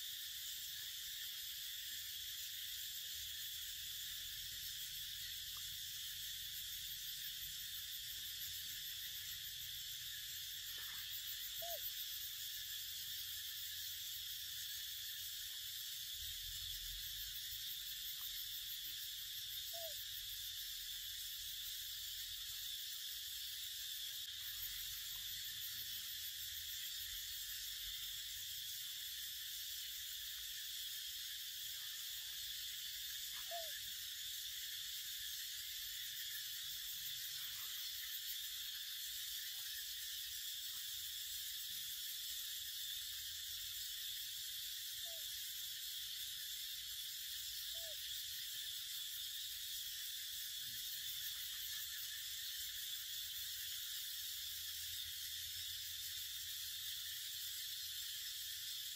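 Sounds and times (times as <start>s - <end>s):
high-pitched forest hiss: 0.0s - 58.9s.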